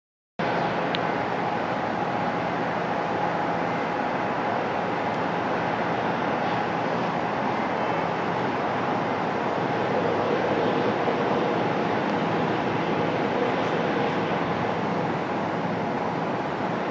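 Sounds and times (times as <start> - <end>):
jet engines at takeoff power: 0.4 - 16.9
faint thin jet whine: 0.5 - 16.9.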